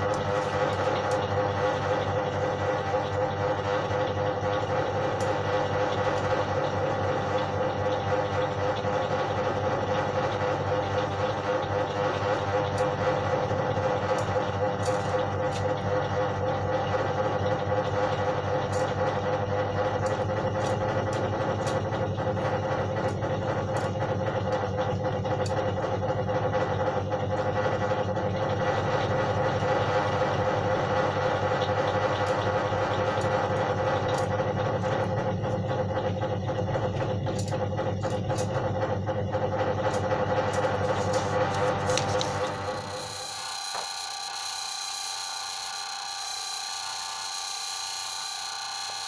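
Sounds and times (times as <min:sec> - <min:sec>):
motor humming: 0:00.0 - 0:49.0.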